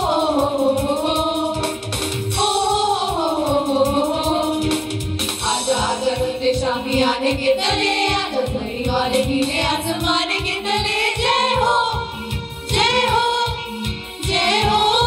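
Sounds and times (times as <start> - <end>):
girls singing together: 0.0 - 4.8, 5.4 - 15.0.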